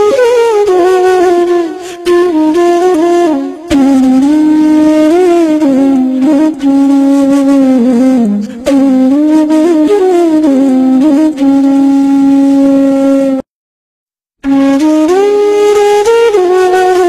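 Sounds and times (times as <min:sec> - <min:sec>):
solo flute melody: 0:00.0 - 0:13.5, 0:14.4 - 0:17.0.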